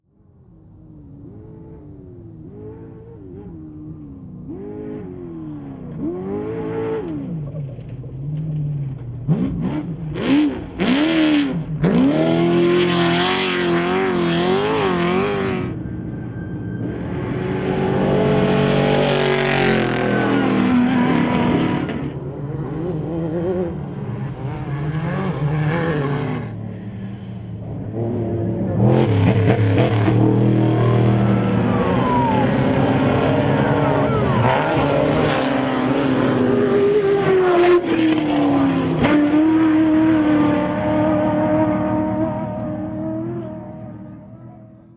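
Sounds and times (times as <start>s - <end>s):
race vehicle engines revving past: 1.0s - 44.9s.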